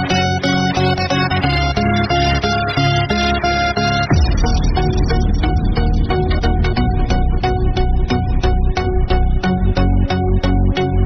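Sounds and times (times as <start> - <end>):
plucked-string instrumental music: 0.0 - 11.0.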